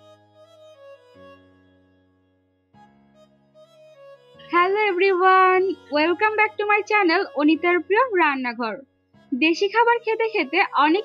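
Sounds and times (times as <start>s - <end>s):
quiet music with sustained notes: 0.0s - 11.0s.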